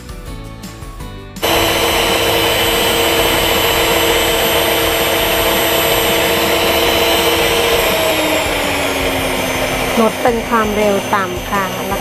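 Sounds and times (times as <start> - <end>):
background music: 0.0 - 12.0
stand mixer motor whine: 1.4 - 12.0.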